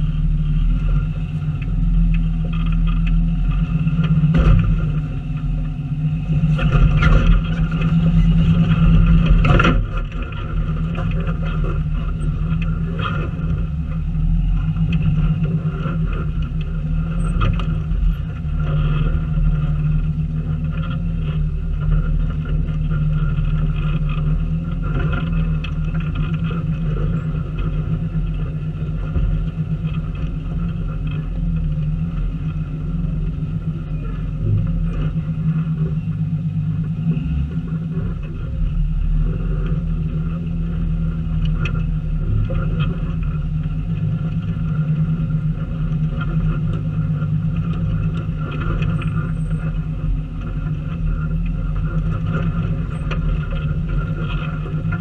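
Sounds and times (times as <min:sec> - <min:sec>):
vehicle engine running low speed: 0:00.0 - 0:55.0.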